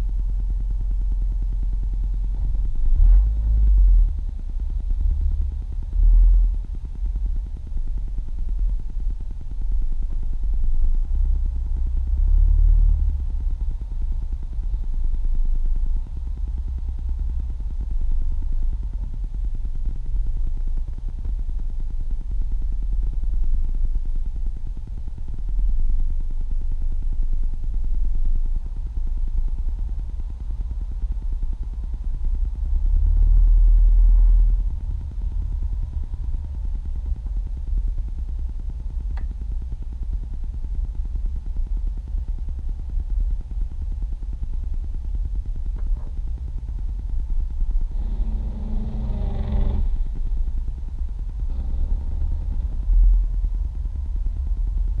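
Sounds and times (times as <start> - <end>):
car engine rumble: 0.0 - 55.0
road noise inside car: 0.0 - 55.0.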